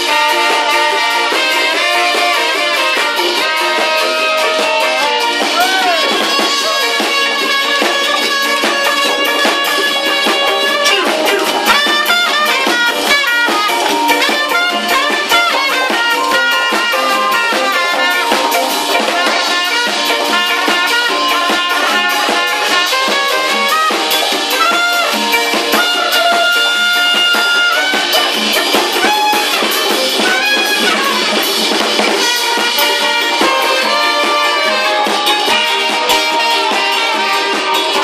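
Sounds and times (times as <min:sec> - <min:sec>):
drum kit: 0:00.0 - 0:38.0
keyboard: 0:00.0 - 0:38.0
saxophone: 0:00.0 - 0:38.0
trumpet: 0:00.0 - 0:38.0.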